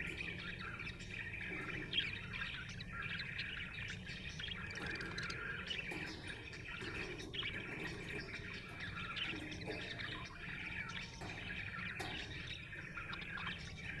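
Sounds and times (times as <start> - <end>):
budgerigar chirping: 0.0 - 14.0.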